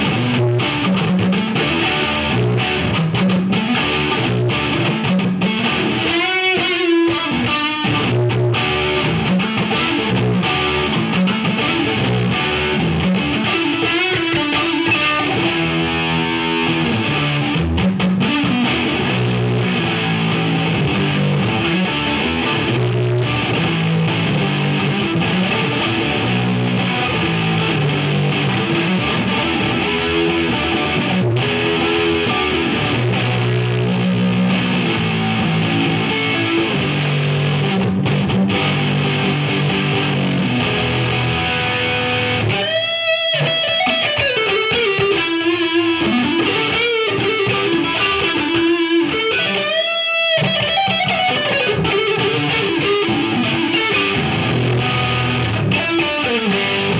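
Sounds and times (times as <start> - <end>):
distorted electric guitar chords: 0.0 - 56.9
electric guitar lead line: 0.0 - 56.9.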